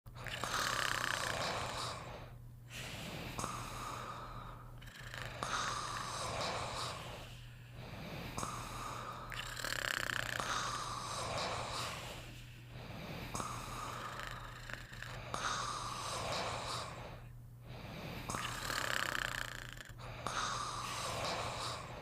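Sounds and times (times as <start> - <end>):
person snoring: 0.2 - 22.0.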